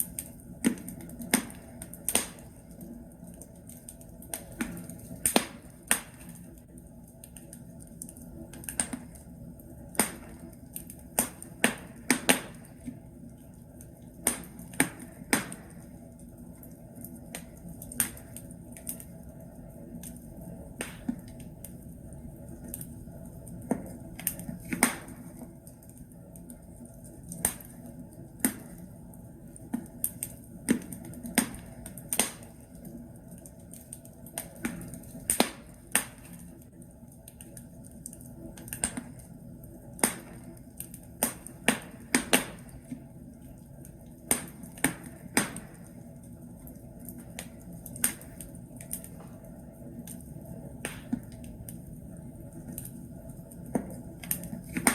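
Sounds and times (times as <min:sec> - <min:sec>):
logs crackling in a fireplace: 0:00.0 - 0:54.9
low hiss of fire: 0:00.0 - 0:54.9.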